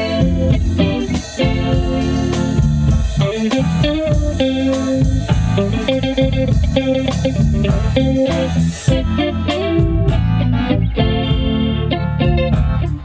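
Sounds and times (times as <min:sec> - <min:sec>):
bass guitar: 0:00.0 - 0:13.0
electric guitar: 0:00.0 - 0:13.0
steady drum beat: 0:00.0 - 0:13.0.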